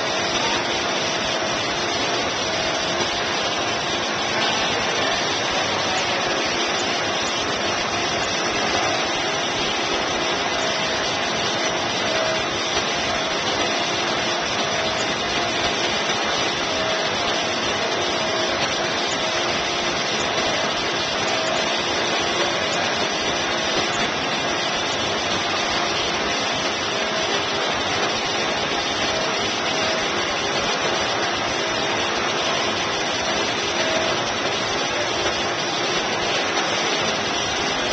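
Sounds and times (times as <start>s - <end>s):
pump hum: 0.0s - 37.9s.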